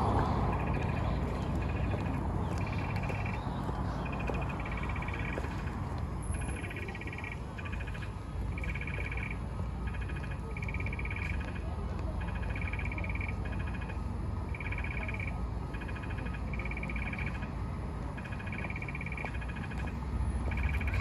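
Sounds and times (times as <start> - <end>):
low rumble of city traffic: 0.0 - 21.0
animal calls in pulsed trills: 0.5 - 5.5, 6.2 - 17.5, 18.1 - 21.0.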